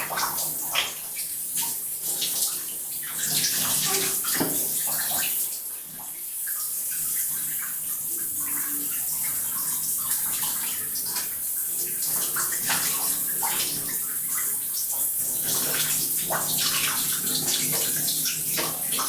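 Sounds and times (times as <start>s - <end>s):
shower water running into bathtub: 0.0s - 19.0s
water splashes: 0.0s - 19.0s.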